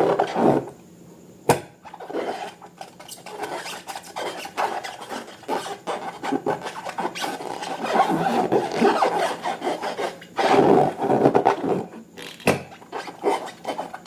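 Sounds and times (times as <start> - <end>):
sticky slime rubbing: 1.9 - 11.9, 12.7 - 14.0.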